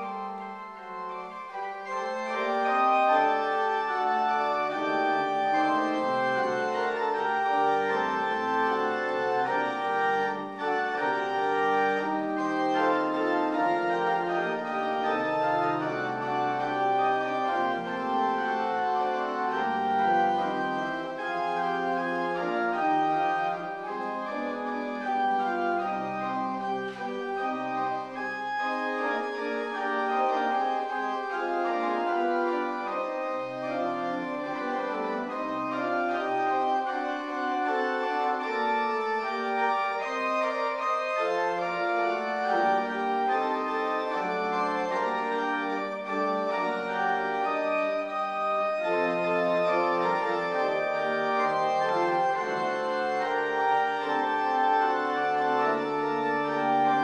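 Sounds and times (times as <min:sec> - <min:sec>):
church organ chords: 0:00.0 - 0:57.0
organ bass notes: 0:00.1 - 0:57.0.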